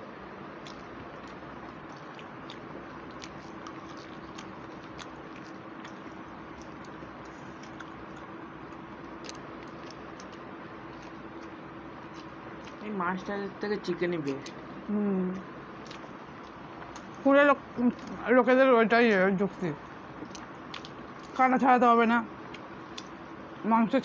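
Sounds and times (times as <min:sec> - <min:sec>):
low background hum: 0:00.0 - 0:24.0
people chewing food: 0:00.4 - 0:18.5, 0:19.5 - 0:21.7, 0:22.4 - 0:23.4.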